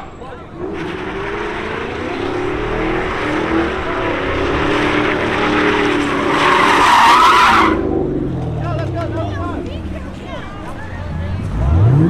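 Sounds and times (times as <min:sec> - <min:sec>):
car engine at high revs: 0:00.5 - 0:10.1, 0:11.0 - 0:12.0.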